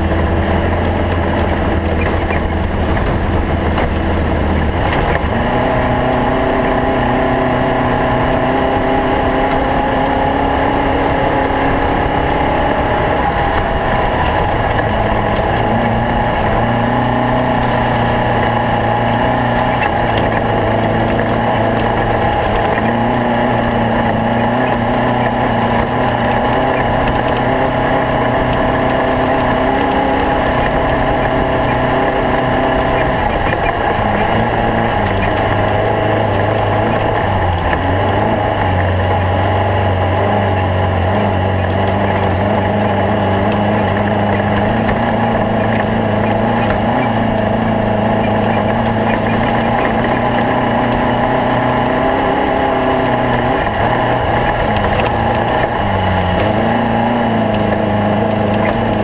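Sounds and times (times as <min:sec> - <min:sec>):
car engine running hard: 0:00.0 - 0:59.0
road and chassis noise: 0:00.0 - 0:59.0.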